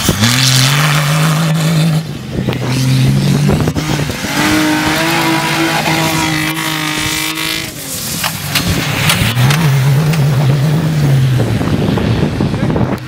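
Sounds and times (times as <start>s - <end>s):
higher-pitched car engine: 0.0s - 13.0s
race car engines at high revs: 0.0s - 13.0s.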